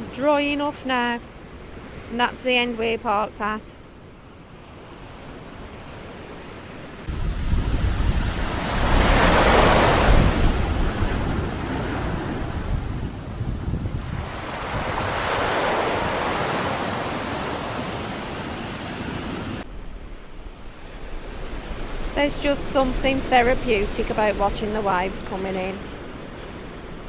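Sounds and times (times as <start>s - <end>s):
sea waves breaking on shore: 0.0s - 2.9s, 3.7s - 27.0s
wind buffeting microphone: 4.8s - 27.0s.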